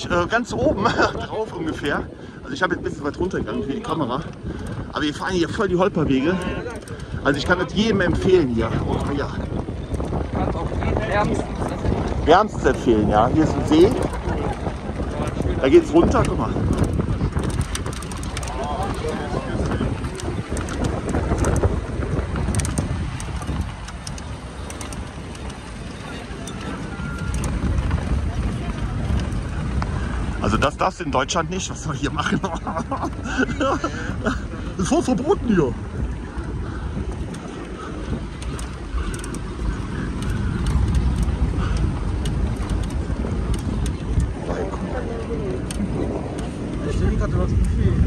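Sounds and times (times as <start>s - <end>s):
sharp clicks and rattles: 0.0s - 48.0s
vehicle rumbling on dirt track: 0.0s - 48.0s
wind buffeting microphone: 0.0s - 48.0s.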